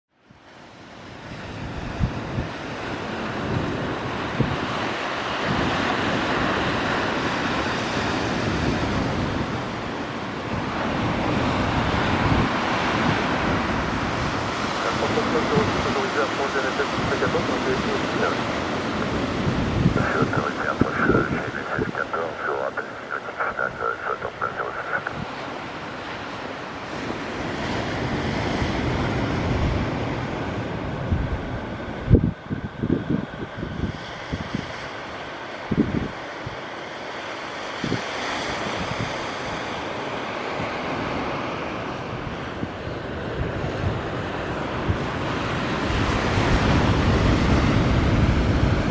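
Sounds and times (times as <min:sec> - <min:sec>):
surf washing: 0:00.2 - 0:48.9
wind rumbling on microphone: 0:01.0 - 0:36.7, 0:37.7 - 0:39.8, 0:40.4 - 0:48.9.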